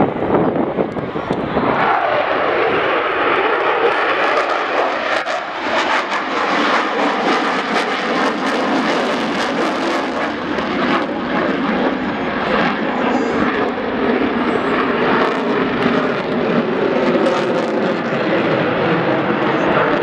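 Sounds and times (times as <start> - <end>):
jet engine noise: 0.0 - 20.0
jet engine crackle: 0.9 - 20.0.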